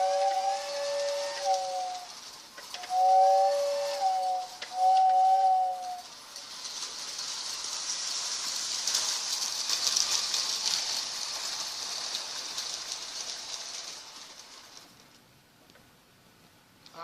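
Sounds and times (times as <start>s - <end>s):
toy train running on track: 0.0s - 15.3s.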